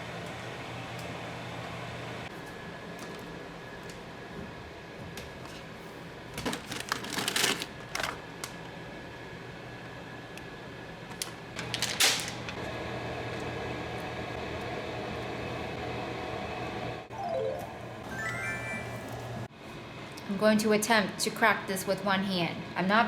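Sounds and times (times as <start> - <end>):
kitchen appliance hum: 0.0 - 22.0.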